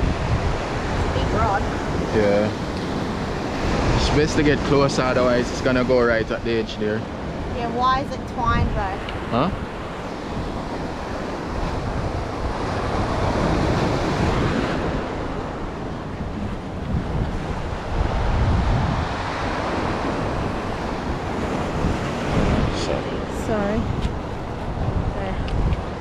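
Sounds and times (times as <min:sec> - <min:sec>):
surf breaking over rocks: 0:00.0 - 0:24.4
wind buffeting microphone: 0:00.0 - 0:26.0.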